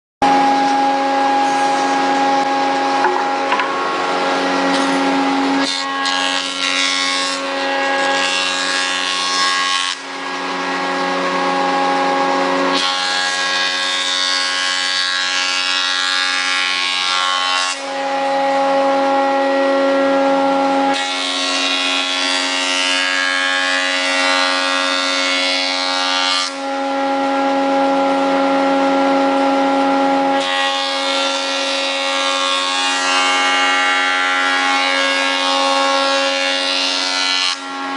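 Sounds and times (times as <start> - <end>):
board cutting on planer: 0.2 - 37.9
planer cutterhead whine: 0.2 - 37.9.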